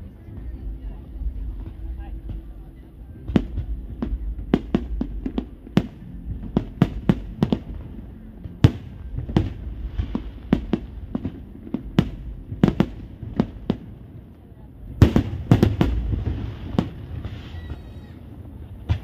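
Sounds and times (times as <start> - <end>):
low rumble: 0.0 - 18.9
fireworks bangs: 0.3 - 19.0.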